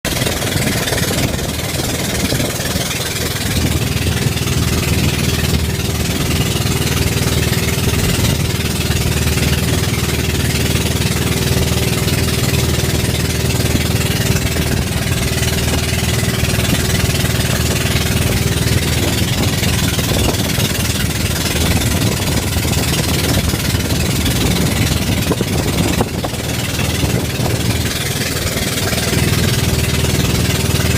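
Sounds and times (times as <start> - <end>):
boat engine running: 0.0 - 30.9.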